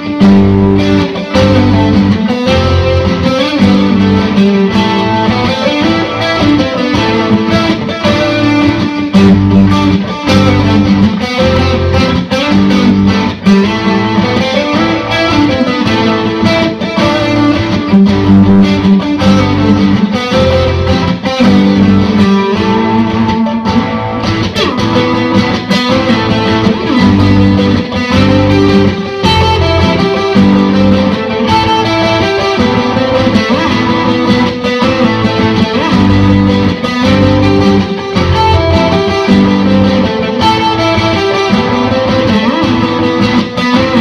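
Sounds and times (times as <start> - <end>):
guitar rock music: 0.0 - 44.0.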